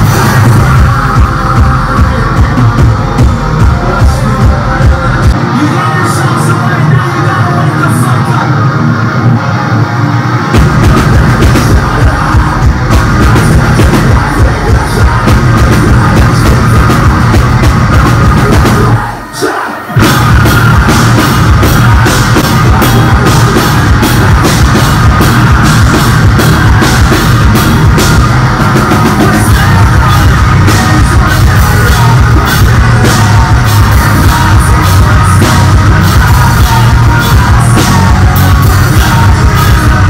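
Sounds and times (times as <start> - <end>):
yelled vocals: 0.0 - 9.0, 10.5 - 40.0
live heavy rock band: 0.0 - 40.0.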